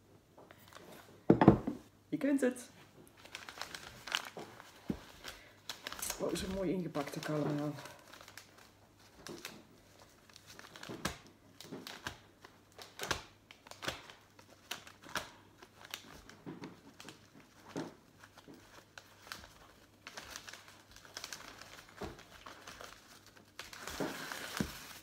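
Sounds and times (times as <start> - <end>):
wrapping paper crinkling: 2.8 - 25.0.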